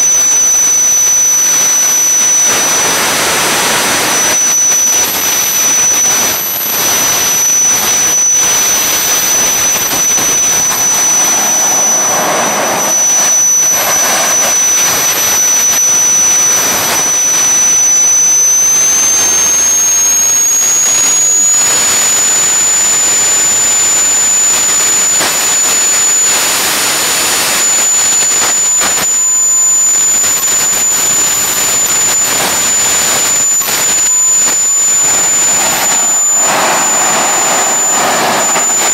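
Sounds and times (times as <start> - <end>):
high compressor whine: 0.0 - 38.9
jet engine exhaust rush: 0.0 - 38.9.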